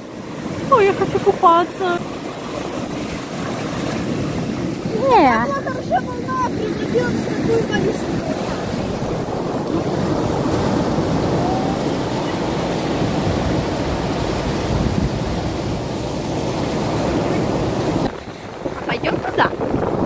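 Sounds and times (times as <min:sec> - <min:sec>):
sea surf breaking on pebbles: 0:00.0 - 0:20.0.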